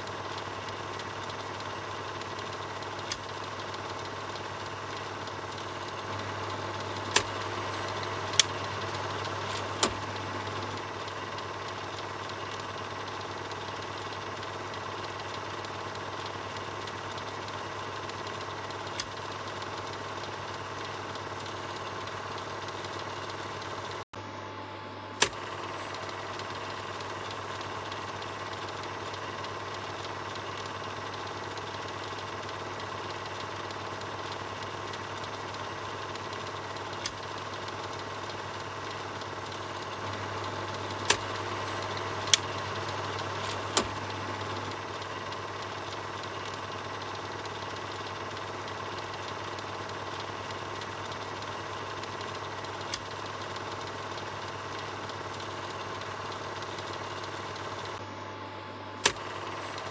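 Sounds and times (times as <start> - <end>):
film projector whirring: 0.0 - 59.9
sharp clicks: 0.2 - 22.8, 25.2 - 58.0, 59.0 - 59.9.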